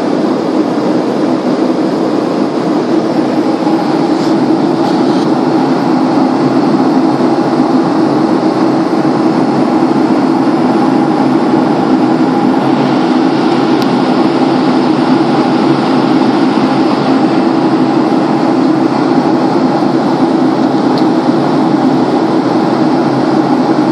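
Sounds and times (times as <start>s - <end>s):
jet airliner cabin rumble: 0.0s - 23.9s.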